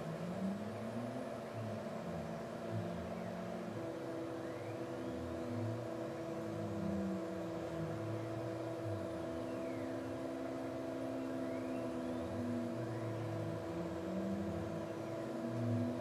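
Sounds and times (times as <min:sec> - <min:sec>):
steady machine hum: 0:00.0 - 0:16.0
stepper motor whine: 0:00.0 - 0:16.0.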